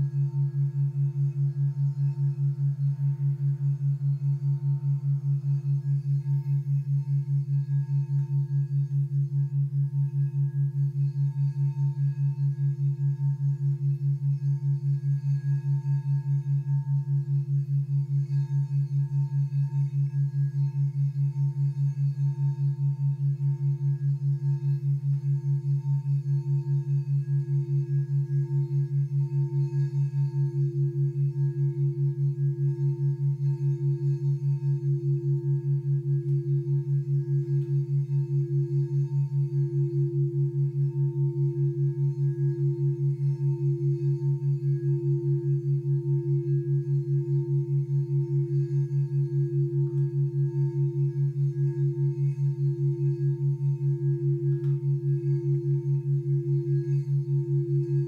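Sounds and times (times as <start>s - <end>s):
low pulsing drone: 0.0s - 58.0s
singing bowl ringing: 0.0s - 58.0s.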